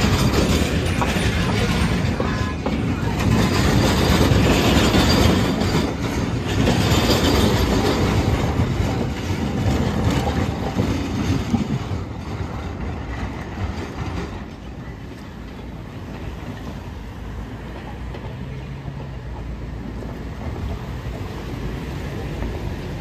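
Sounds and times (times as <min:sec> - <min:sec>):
train wheels clacking on rails: 0:00.0 - 0:23.0.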